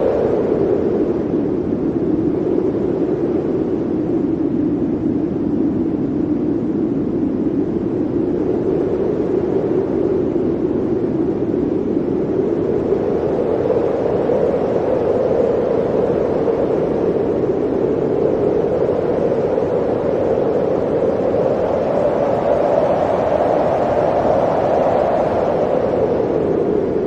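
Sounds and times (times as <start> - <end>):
blizzard wind blowing: 0.0 - 27.0.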